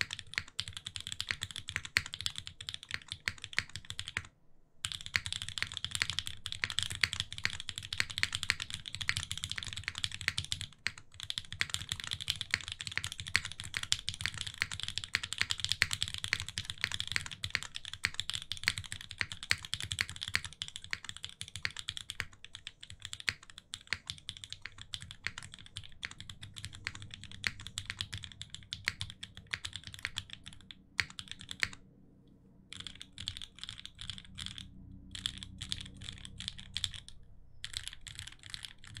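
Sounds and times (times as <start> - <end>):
mechanical keyboard typing: 0.0 - 31.8, 32.7 - 39.0.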